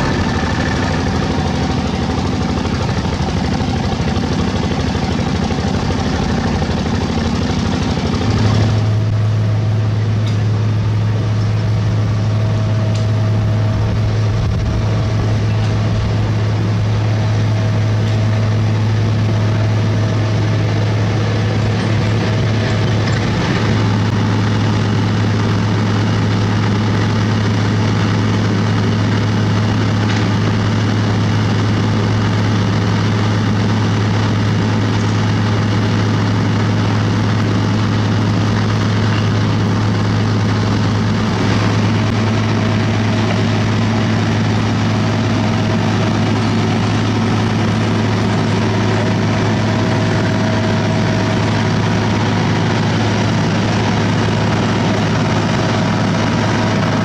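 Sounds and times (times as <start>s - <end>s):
heavy diesel engines humming: 0.0s - 57.0s.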